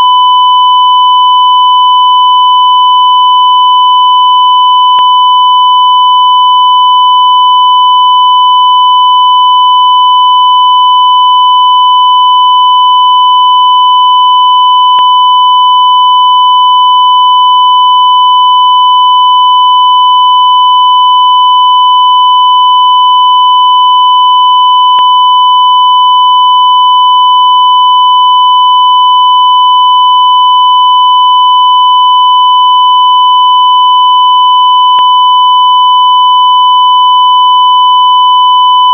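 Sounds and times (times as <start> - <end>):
censor beep tone: 0.0 - 38.9.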